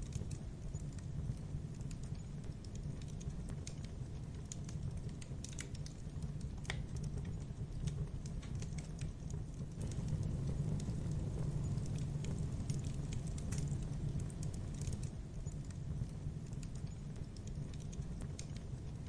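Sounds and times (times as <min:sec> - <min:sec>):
logs crackling in fireplace: 0:00.0 - 0:19.0
low rumble of fire: 0:00.0 - 0:19.0.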